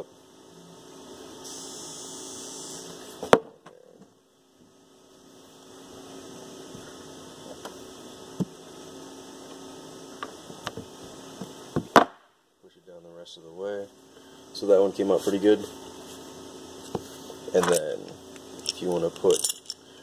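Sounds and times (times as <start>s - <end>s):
mains hum: 0.0s - 20.0s.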